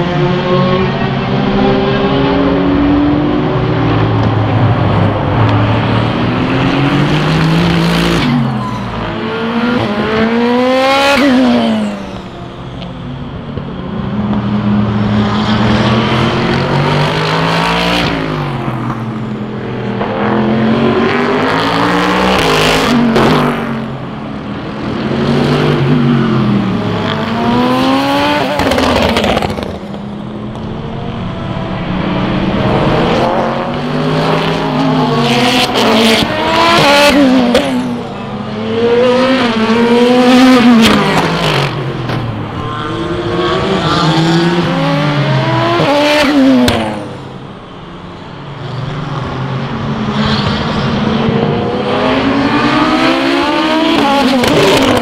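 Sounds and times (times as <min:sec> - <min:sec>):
race cars passing and accelerating: 0:00.0 - 0:55.0.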